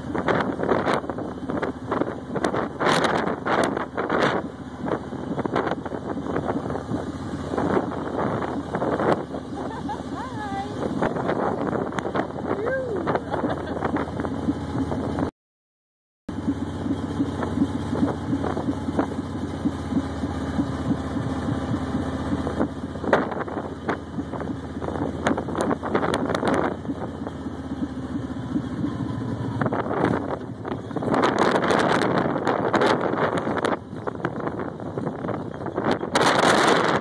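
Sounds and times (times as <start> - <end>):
car engine and road noise: 0.0 - 15.3, 16.3 - 37.0.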